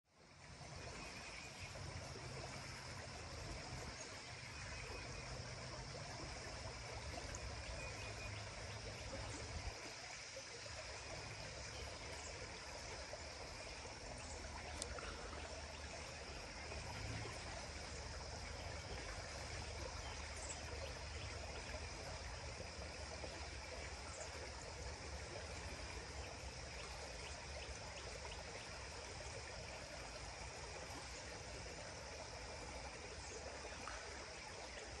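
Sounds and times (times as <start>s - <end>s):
stream running: 0.1s - 35.0s
high insect hum: 0.2s - 35.0s.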